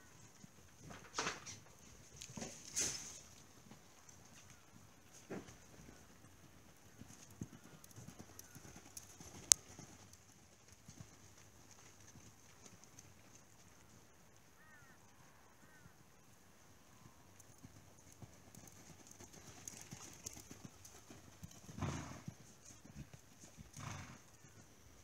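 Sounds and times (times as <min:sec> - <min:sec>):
horse hoofbeats on dirt: 0:00.0 - 0:14.9, 0:17.4 - 0:24.8.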